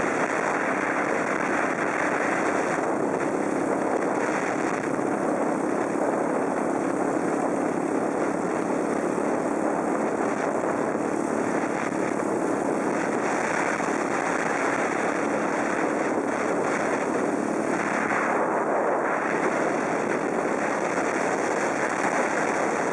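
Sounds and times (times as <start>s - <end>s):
rushing noise of travel on snow: 0.0s - 22.9s.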